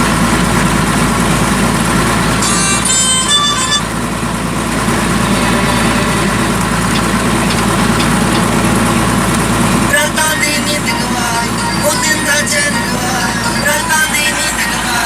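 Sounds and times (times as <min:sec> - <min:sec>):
truck engine rumbling: 0:00.0 - 0:15.0
high reedy tones: 0:02.0 - 0:15.0.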